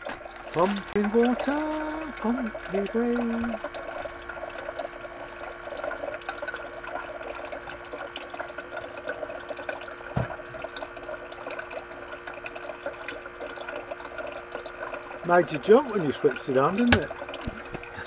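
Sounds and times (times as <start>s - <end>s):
water pump humming: 0.0s - 18.0s
water streaming into metal pan: 0.0s - 18.0s.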